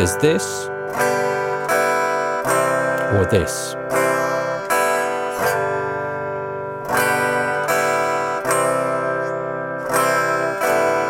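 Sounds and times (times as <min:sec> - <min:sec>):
acoustic guitar strummed slowly: 0:00.0 - 0:11.0.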